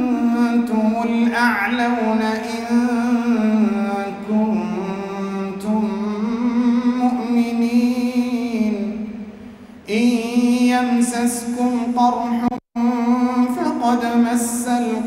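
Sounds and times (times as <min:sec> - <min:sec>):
man chanting melodically: 0:00.0 - 0:09.2, 0:09.8 - 0:15.0.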